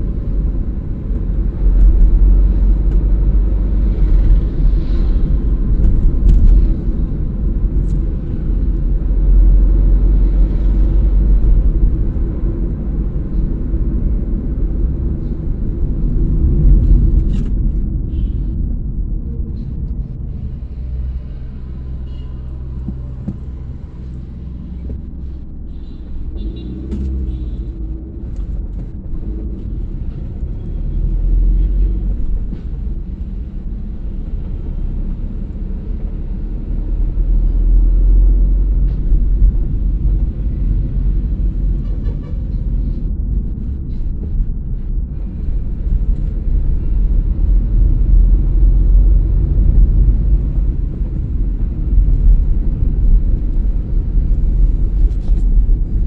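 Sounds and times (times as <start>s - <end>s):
car engine rumble: 0.0s - 56.0s
tyre road noise: 0.0s - 56.0s.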